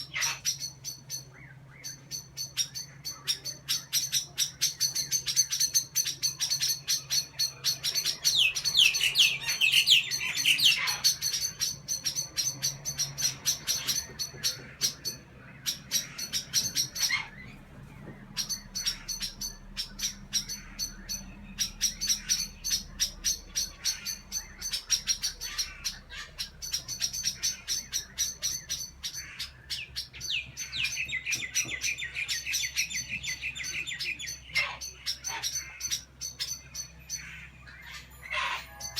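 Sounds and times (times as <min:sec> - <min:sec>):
birds chattering alarm calls: 0:00.0 - 0:38.9.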